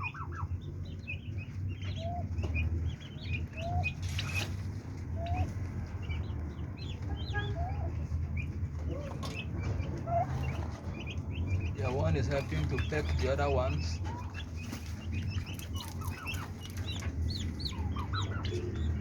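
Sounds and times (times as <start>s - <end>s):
turkey poults peeping: 0.0s - 19.0s.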